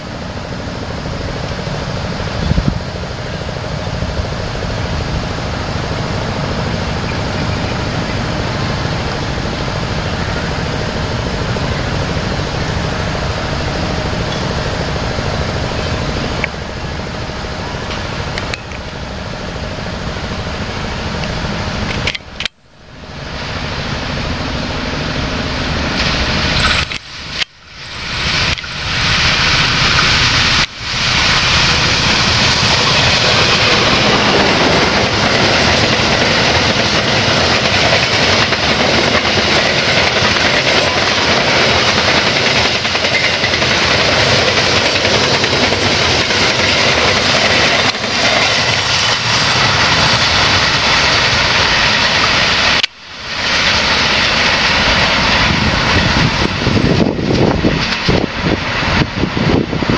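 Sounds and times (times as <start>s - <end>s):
train rattling over rails: 0.0s - 59.9s.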